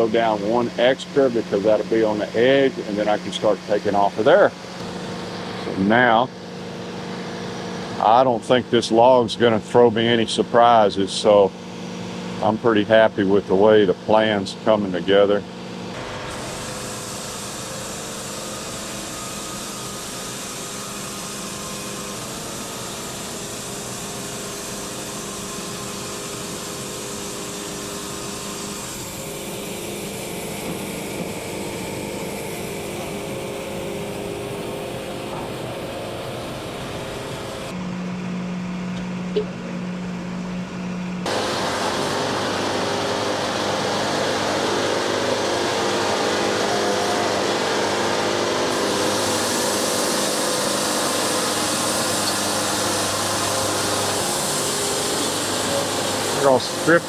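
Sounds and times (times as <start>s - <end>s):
band sawmill engine droning: 0.0s - 57.0s.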